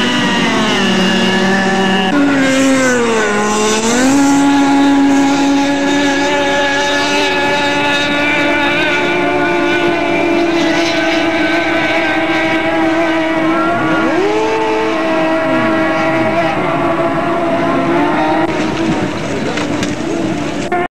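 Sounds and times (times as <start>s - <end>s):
powerboat engines at high revs: 0.0s - 20.9s.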